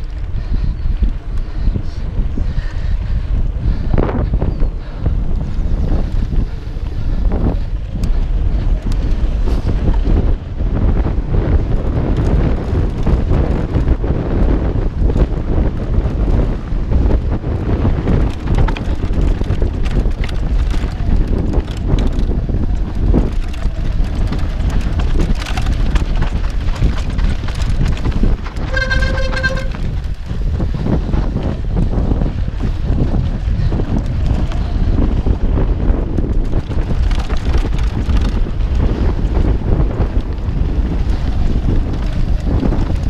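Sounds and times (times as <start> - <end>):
bike rattling and knocking: 0.0 - 43.0
wind buffeting microphone: 0.0 - 43.0.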